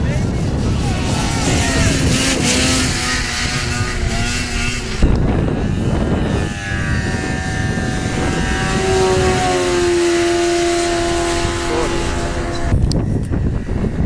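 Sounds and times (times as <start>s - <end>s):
snowmobile engines running: 0.0s - 14.0s.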